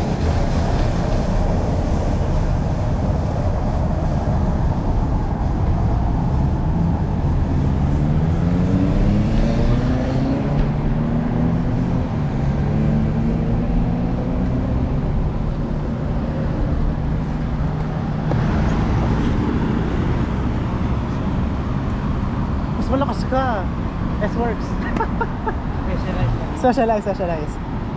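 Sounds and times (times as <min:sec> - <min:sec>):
road and wind rumble: 0:00.0 - 0:27.9.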